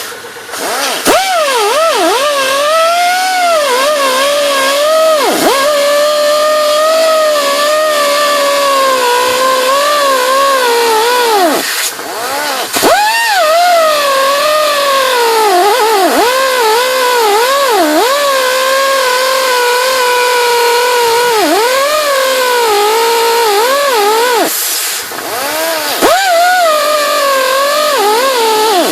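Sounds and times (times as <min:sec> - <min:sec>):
high-speed power tool motor: 0:00.0 - 0:28.9.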